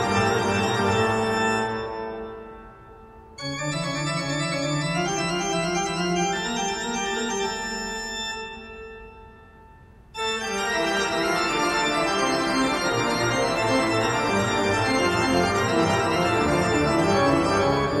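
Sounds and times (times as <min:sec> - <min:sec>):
organ music: 0:00.0 - 0:18.0.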